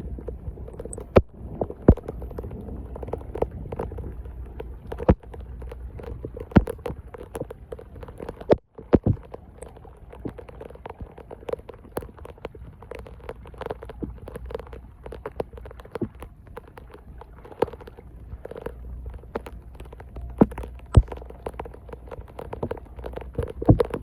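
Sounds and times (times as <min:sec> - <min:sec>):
knocks and splashes: 0:00.0 - 0:24.0
low wash of water: 0:00.0 - 0:24.0.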